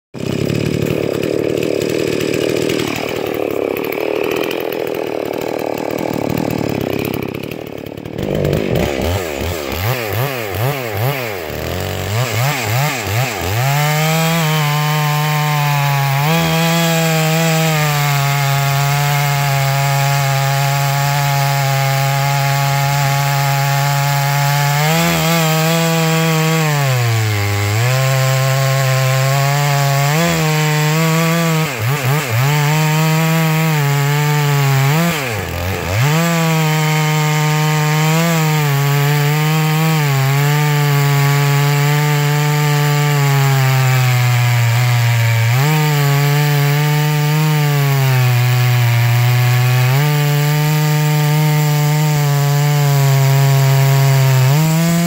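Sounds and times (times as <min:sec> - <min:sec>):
chainsaw engine revving: 0:00.2 - 0:55.0.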